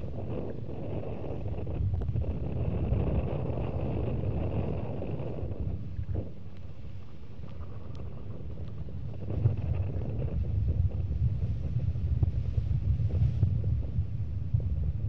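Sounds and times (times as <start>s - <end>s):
low rumble: 0.0s - 15.0s
wind buffeting microphone: 0.0s - 15.0s.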